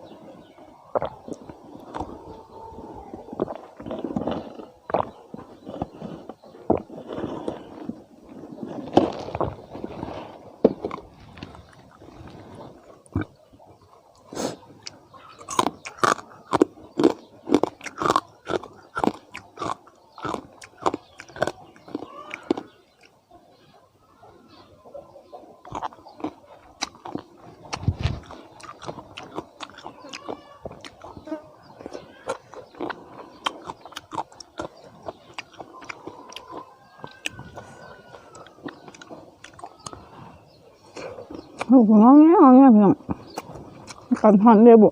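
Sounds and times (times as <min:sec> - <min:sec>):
person chewing crunchy food: 0:01.0 - 0:23.2, 0:25.6 - 0:41.8, 0:43.0 - 0:44.2.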